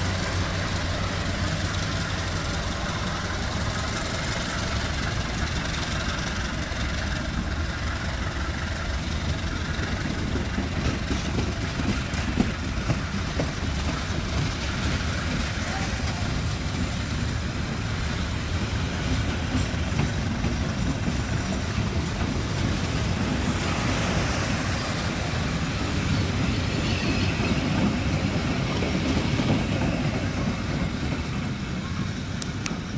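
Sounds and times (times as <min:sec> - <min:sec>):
train wheels on rail: 0:00.0 - 0:32.9.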